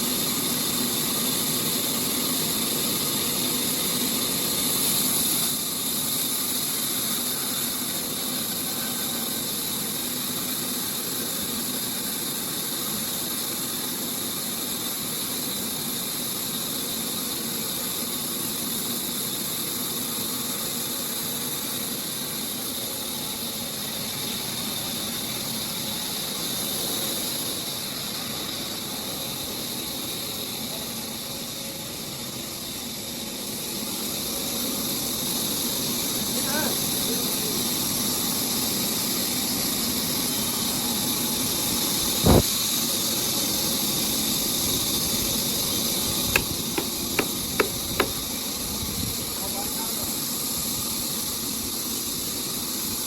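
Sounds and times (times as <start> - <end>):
sawmill saw hissing and squealing: 0.0 - 53.0.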